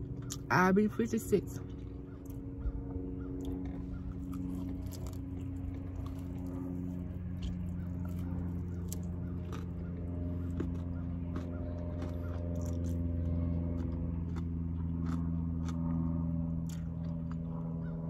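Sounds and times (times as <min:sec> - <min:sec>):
chewing and crunching: 0:00.0 - 0:18.0
low hum: 0:00.0 - 0:18.0.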